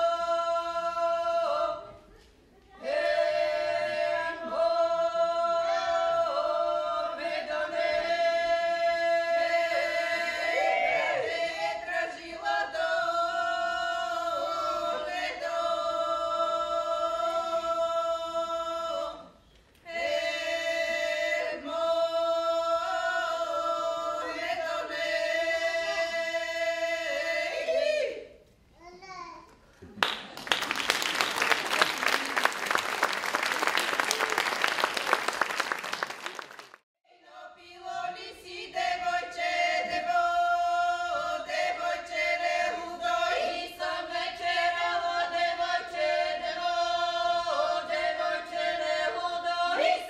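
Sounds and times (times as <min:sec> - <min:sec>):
women's choir singing unaccompanied: 0:00.0 - 0:02.1, 0:02.7 - 0:28.4, 0:37.1 - 0:50.0.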